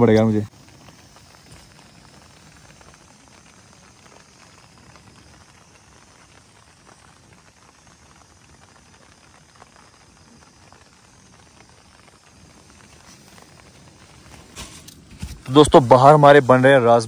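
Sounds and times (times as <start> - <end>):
rain pattering on a tent: 0.0 - 17.0.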